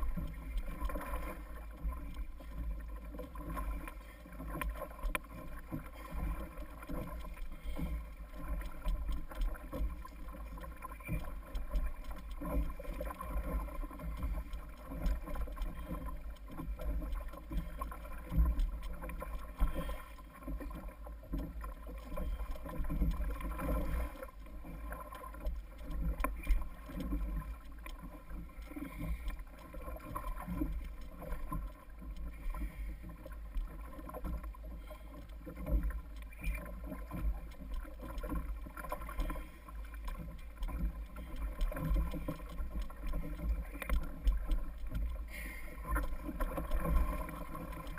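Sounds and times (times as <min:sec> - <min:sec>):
water slapping kayak hull: 0:00.0 - 0:47.9.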